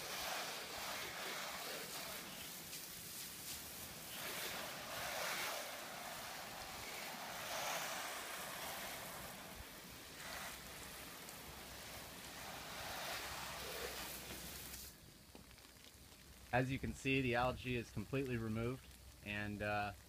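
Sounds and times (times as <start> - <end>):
water spray hissing on siding: 0.0 - 20.0.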